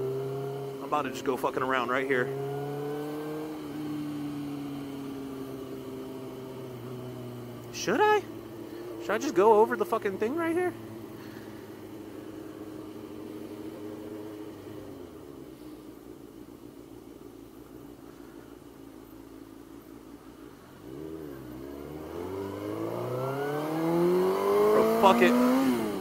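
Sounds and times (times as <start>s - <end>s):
motorcycle engine revving: 0.0s - 16.6s, 20.3s - 26.0s.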